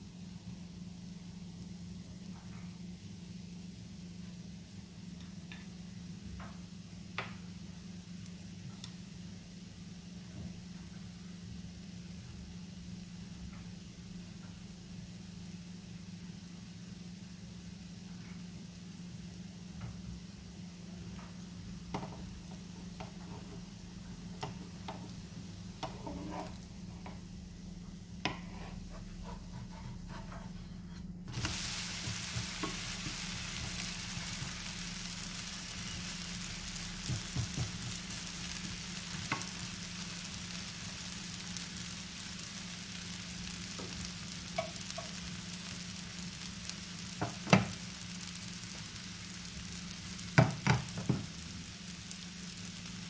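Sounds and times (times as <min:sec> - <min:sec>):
crepe sizzling in a pan: 0:01.0 - 0:30.5, 0:31.3 - 0:53.0.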